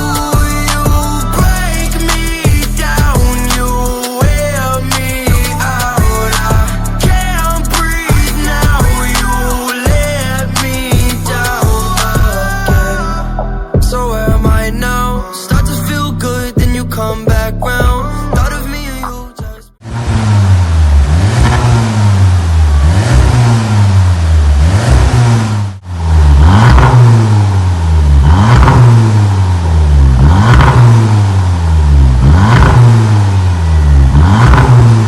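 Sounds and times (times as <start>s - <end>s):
car engine revving: 0.0s - 18.2s, 19.8s - 35.0s.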